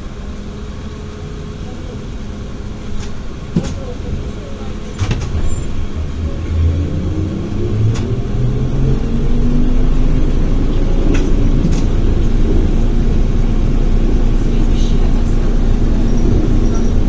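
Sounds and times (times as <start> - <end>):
low rumble of running gear: 0.0 - 17.0
trolleybus motor whine: 0.0 - 17.0.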